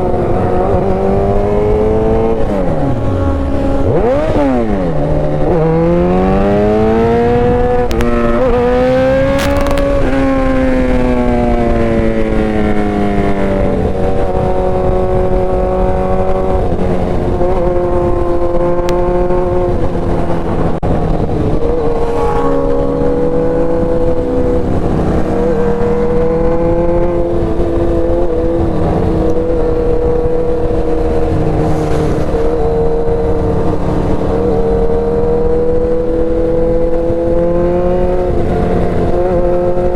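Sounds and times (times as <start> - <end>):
motorcycle engine accelerating: 0.0 - 39.9
wind rushing over microphone: 0.0 - 39.9.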